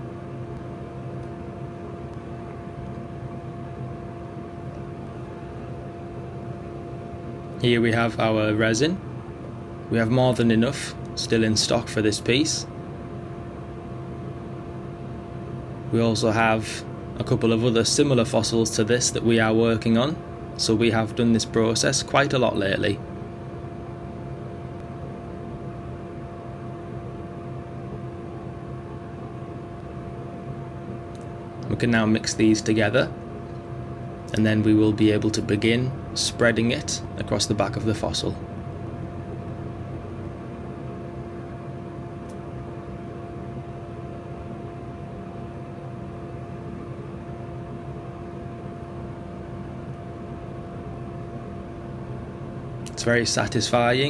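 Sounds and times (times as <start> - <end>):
steady drone hum: 0.0 - 54.0.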